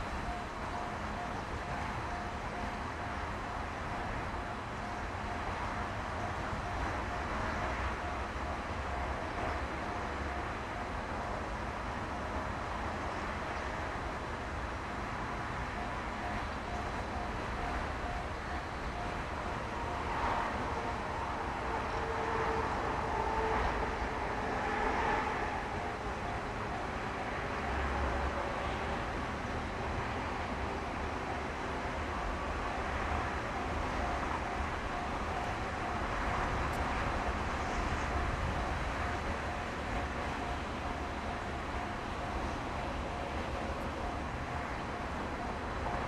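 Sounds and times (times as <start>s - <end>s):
distant traffic rumble: 0.0s - 46.0s.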